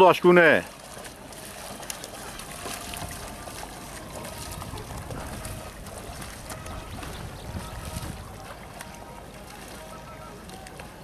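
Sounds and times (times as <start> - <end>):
kayak paddles splashing: 0.0 - 11.0
open water and wind noise: 0.0 - 11.0.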